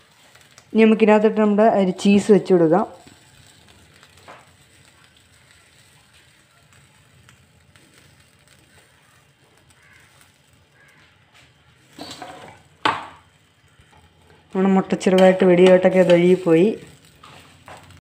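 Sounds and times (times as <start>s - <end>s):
egg frying in a pan: 0.0s - 18.0s.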